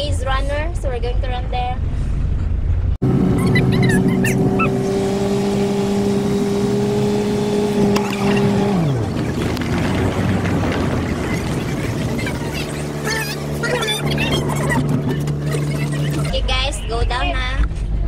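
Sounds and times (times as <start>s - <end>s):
road noise: 0.0s - 18.0s
van engine running: 1.0s - 18.0s.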